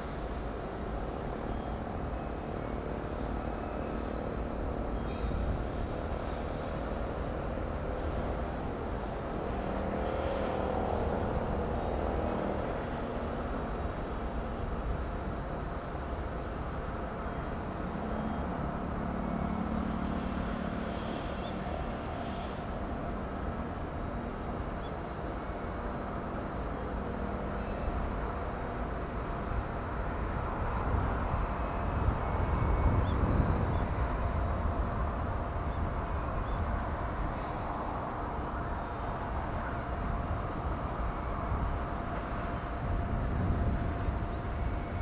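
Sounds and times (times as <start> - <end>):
faint engine hum: 0.0 - 45.0
outdoor background rumble: 0.0 - 45.0.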